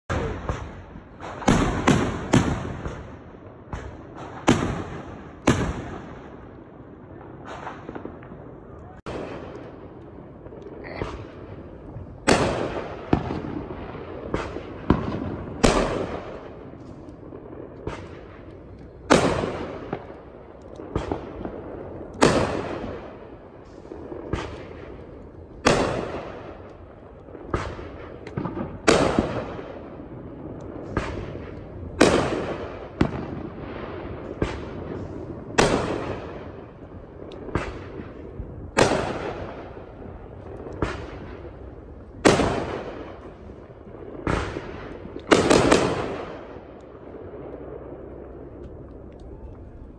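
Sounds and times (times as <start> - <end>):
fireworks booming: 0.1 - 49.9
small fireworks pops: 0.1 - 49.9.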